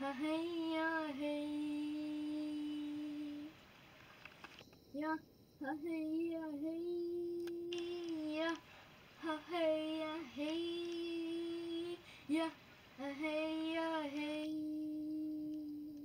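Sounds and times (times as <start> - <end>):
girl singing long notes: 0.0 - 3.6, 5.0 - 8.6, 9.2 - 16.0.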